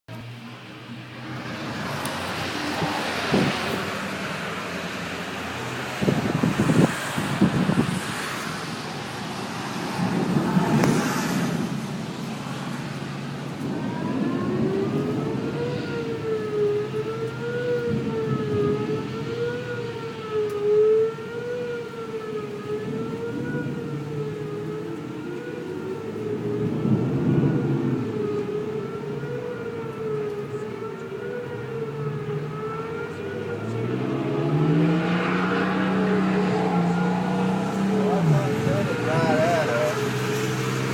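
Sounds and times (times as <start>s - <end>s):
traffic: 0.1s - 40.9s
wind rumble: 0.1s - 40.9s
warning siren wailing: 0.3s - 40.9s.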